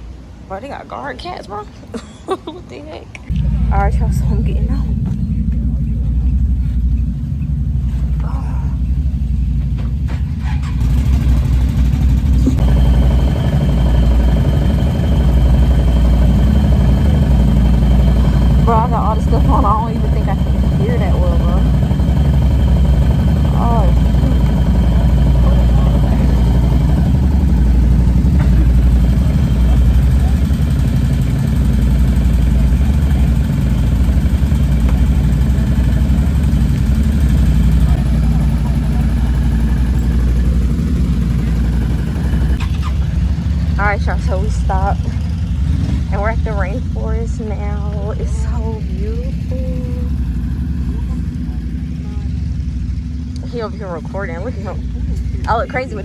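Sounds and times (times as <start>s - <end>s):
steady high whine: 3.2s - 56.0s
atv engine idling: 3.3s - 56.0s.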